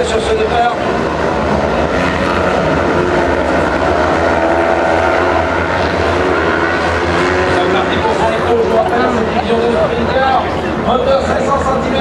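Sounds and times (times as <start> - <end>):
distant racing car engines: 0.0 - 12.0.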